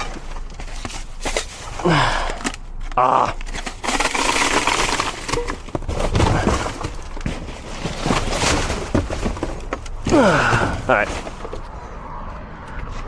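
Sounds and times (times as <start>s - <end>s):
bags and packaging rustling: 0.0s - 11.8s
items clattering: 0.0s - 11.8s.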